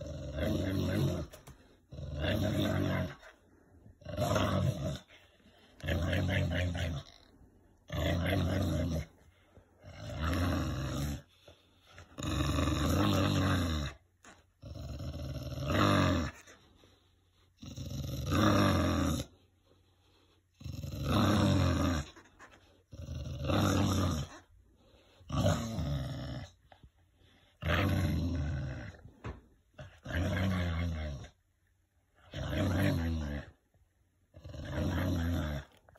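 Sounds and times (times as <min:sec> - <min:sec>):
dog growling: 0:00.0 - 0:03.4, 0:04.0 - 0:09.2, 0:09.8 - 0:16.6, 0:17.6 - 0:19.4, 0:20.6 - 0:31.4, 0:32.2 - 0:33.6, 0:34.3 - 0:35.9.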